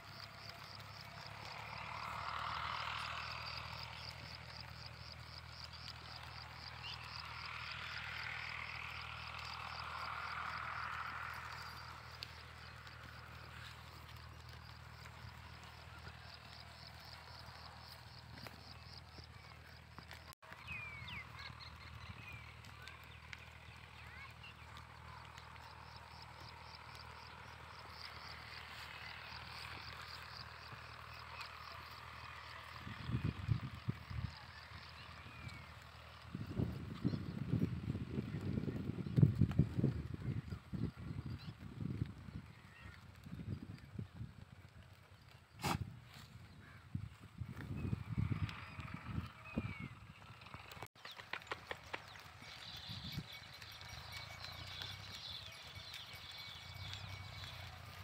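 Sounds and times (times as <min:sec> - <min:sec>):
low outdoor hum: 0:00.0 - 0:58.0.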